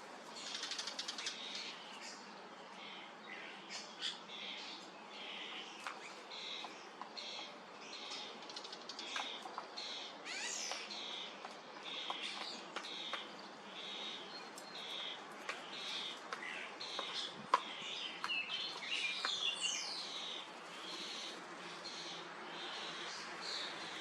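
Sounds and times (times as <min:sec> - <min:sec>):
starlings scratchy calls: 0:00.4 - 0:02.3, 0:03.3 - 0:24.0.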